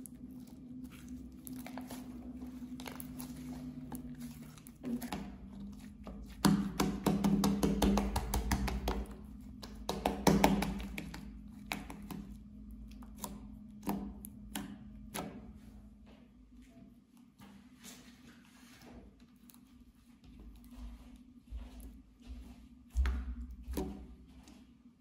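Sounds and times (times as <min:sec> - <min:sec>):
slime squishing by hand: 0:00.0 - 0:24.9.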